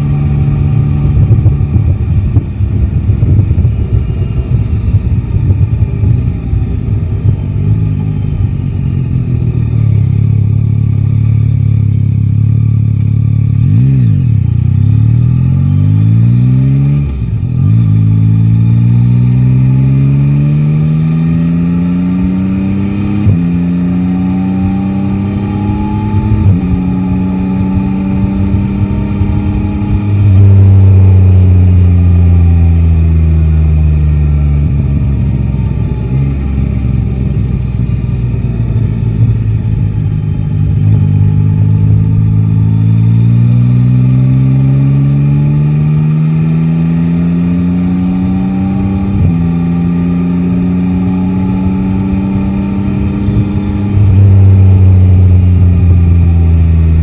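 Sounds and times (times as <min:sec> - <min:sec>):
deep engine rumble: 0:00.0 - 0:57.0
motorcycle engine revving: 0:00.0 - 0:57.0.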